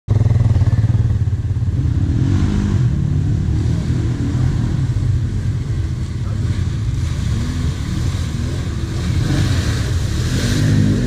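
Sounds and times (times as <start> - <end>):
quad bike engine idling: 0.1 - 11.0
quad bike engine revving: 0.1 - 11.0.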